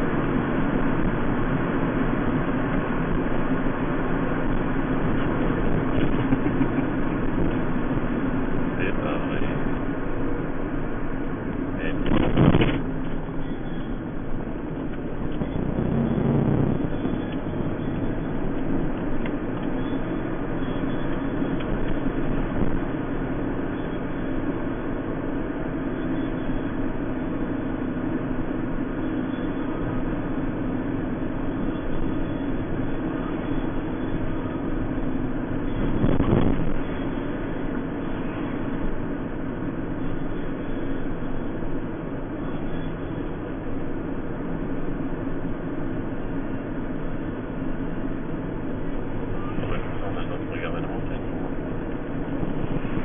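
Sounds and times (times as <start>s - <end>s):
car engine and tyre noise: 0.0s - 53.0s.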